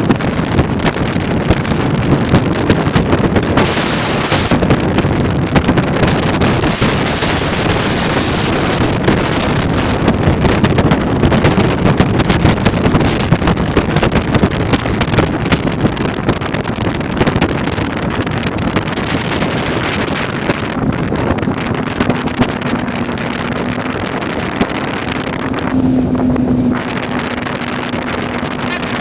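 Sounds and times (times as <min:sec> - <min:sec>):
gusty wind on microphone: 0:00.0 - 0:29.0
low steady rumble: 0:00.0 - 0:29.0.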